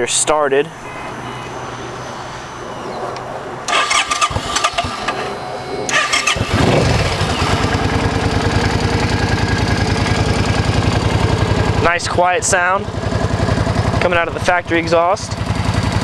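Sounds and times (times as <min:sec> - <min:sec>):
motorcycle engine starting and idling: 0:00.0 - 0:16.0
starter clicks and rattles: 0:00.7 - 0:16.0.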